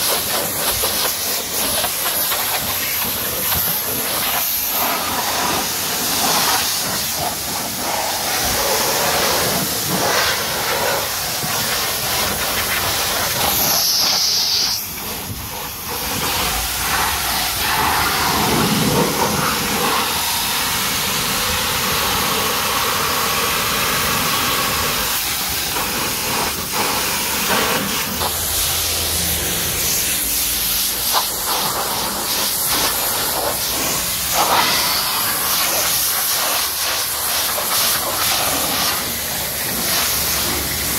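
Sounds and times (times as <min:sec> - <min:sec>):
pressure washer water jet hissing: 0:00.0 - 0:40.9.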